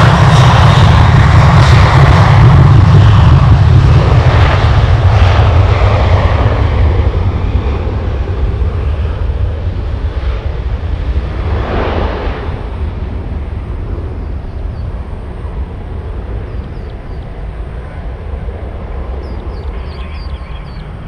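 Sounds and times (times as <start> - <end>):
jet engine roar: 0.0 - 21.0.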